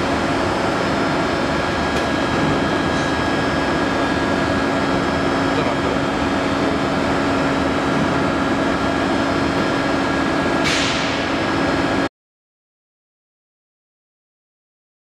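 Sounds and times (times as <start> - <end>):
hydraulic press humming: 0.0 - 12.1.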